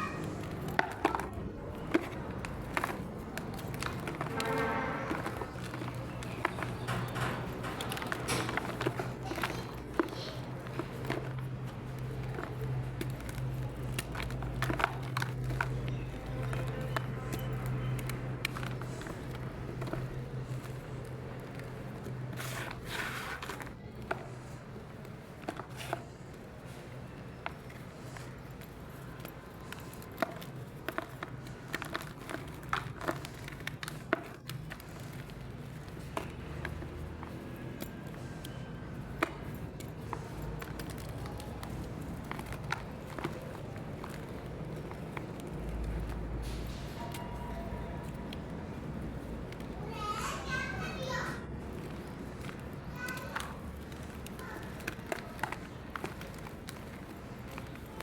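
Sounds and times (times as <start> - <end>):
chalk crumbling and crunching: 0.0 - 58.0.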